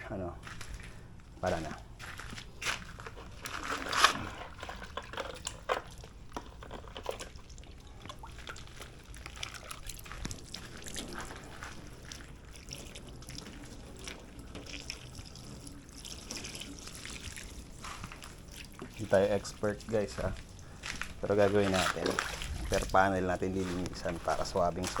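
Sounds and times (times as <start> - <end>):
water dripping and splashing: 2.0 - 25.0.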